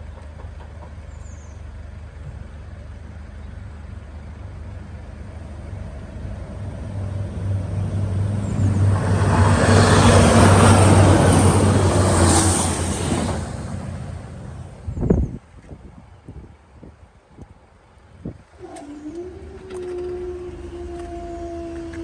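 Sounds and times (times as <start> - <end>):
wheels rushing on rails: 0.0 - 16.0, 17.3 - 22.0.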